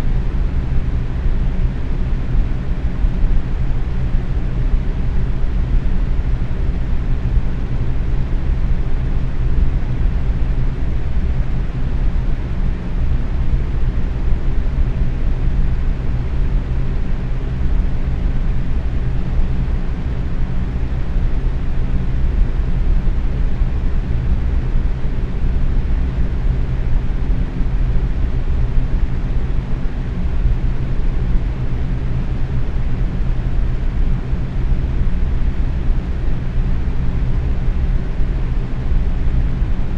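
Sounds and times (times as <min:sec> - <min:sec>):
box fan running: 0:00.0 - 0:39.9.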